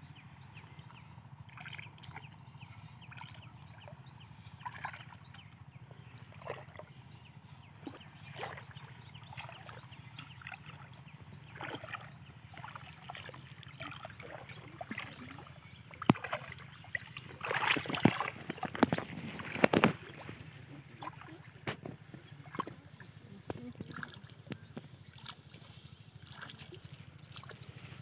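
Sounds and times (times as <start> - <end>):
person wading through water: 0.4 - 28.0.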